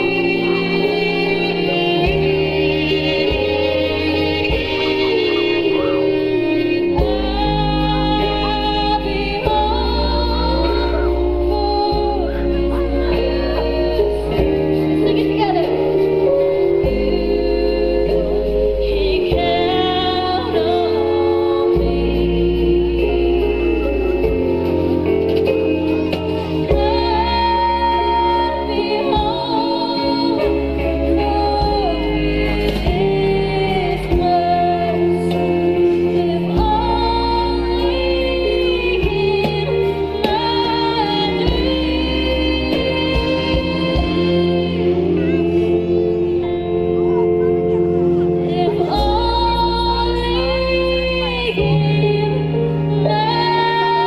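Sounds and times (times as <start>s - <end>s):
electric guitar: 0.0s - 54.0s
sustained bass: 0.0s - 54.0s
woman singing: 0.0s - 54.0s.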